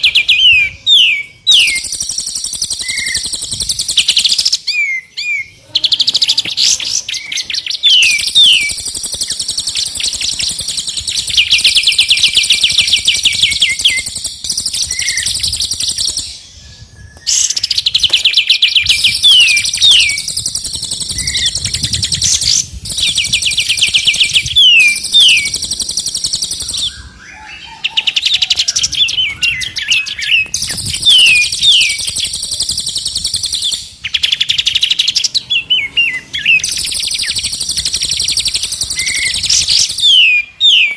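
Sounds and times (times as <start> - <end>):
songbird trills and chirps: 0.0 - 40.9.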